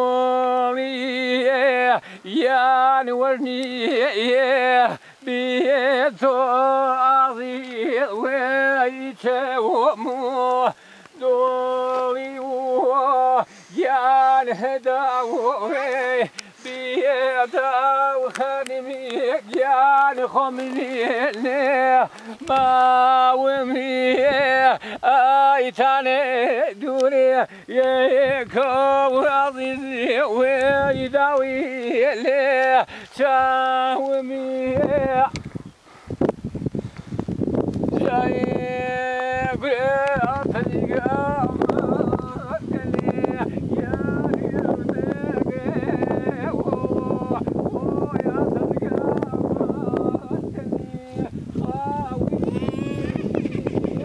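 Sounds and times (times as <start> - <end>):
man singing unaccompanied: 0.0 - 35.8, 37.8 - 54.0.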